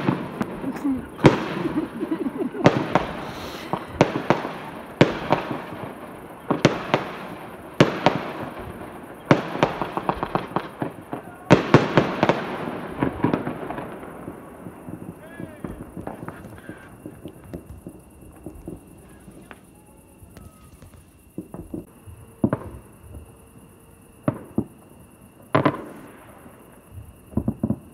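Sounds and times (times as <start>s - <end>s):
fireworks bangs echoing: 0.0s - 23.4s, 24.2s - 24.8s, 25.5s - 27.9s.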